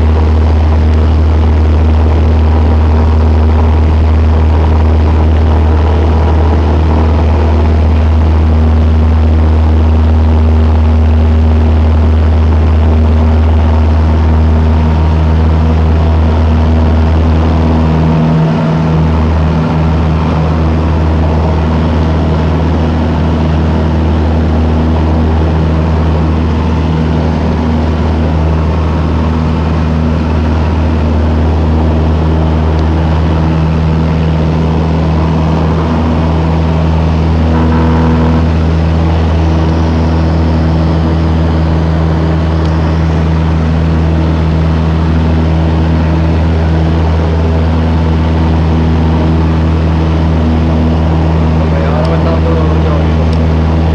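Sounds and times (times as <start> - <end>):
airplane engine and propeller droning: 0.0 - 53.9.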